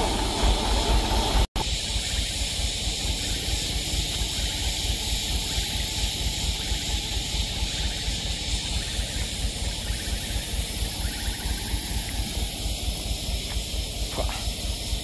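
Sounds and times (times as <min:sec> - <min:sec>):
diesel truck engine throbbing: 0:00.0 - 0:15.0
steady high hiss: 0:00.0 - 0:15.0.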